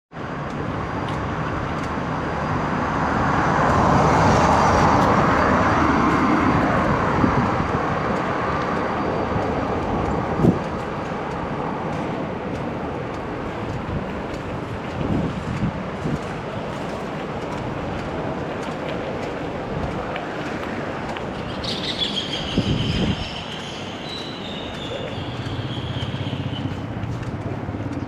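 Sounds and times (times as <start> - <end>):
ocean waves washing: 0.3 - 28.0.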